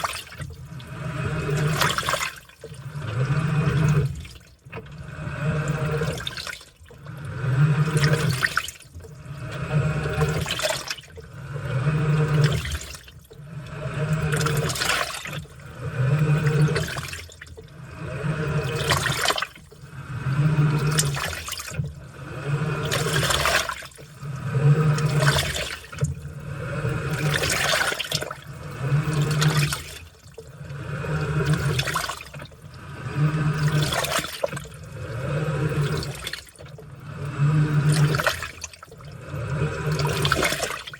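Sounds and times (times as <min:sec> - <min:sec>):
washing machine sloshing laundry: 0:00.0 - 0:40.9.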